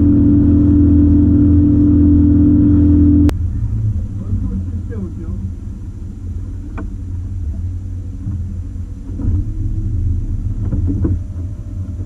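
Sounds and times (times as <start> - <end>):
outboard motor rumbling: 0.0 - 12.0.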